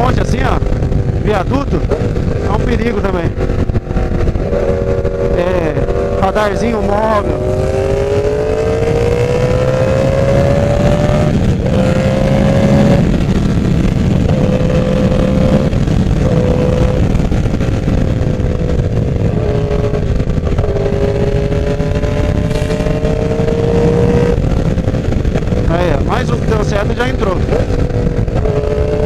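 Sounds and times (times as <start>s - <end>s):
motorcycle engine accelerating: 0.0s - 29.0s
wind rush: 0.0s - 29.0s.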